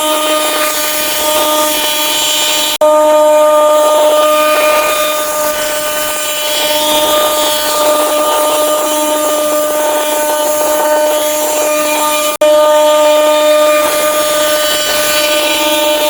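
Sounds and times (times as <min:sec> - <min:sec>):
power tool motor humming: 0:00.0 - 0:16.0.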